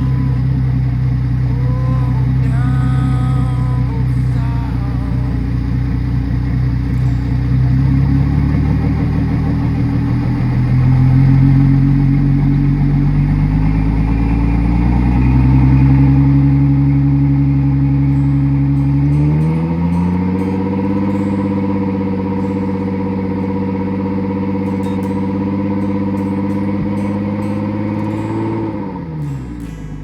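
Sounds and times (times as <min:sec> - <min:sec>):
car engine running and revving: 0:00.0 - 0:30.0.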